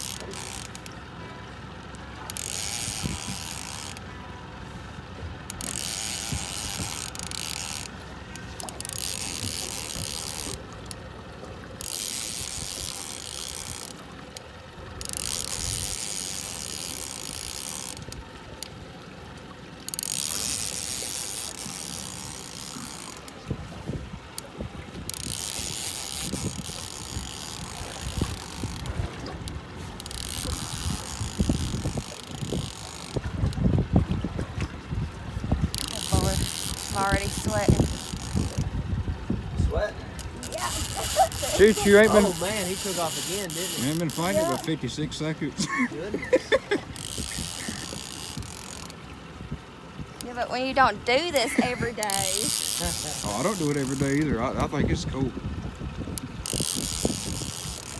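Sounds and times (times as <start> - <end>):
fishing reel cranking: 0.0 - 1.0, 2.2 - 4.1, 5.4 - 11.1, 11.7 - 18.8, 19.8 - 34.7, 35.6 - 38.8, 40.1 - 49.2, 50.2 - 55.2, 56.0 - 57.9.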